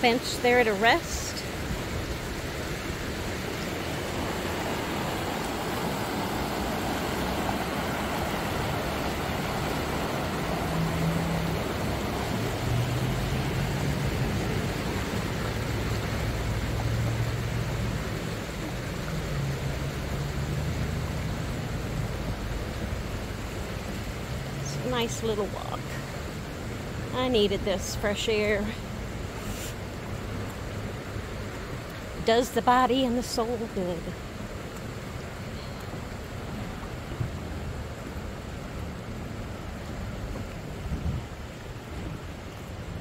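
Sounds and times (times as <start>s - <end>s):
low vehicle hum: 0.0s - 43.0s
river rushing over riffles: 0.0s - 43.0s.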